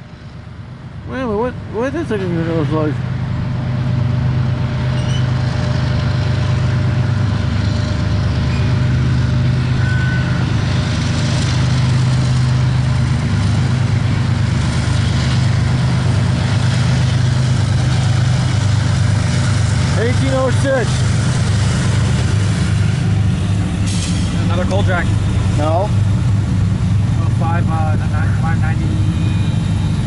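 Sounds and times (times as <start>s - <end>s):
diesel locomotive drone: 0.0s - 30.0s
train cars rolling: 0.0s - 30.0s.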